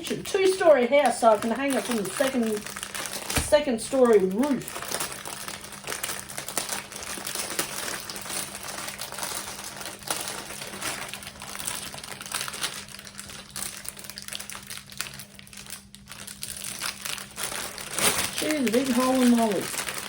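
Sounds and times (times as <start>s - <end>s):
faint steady hum: 0.0s - 20.0s
plastic packaging crinkling: 0.0s - 20.0s.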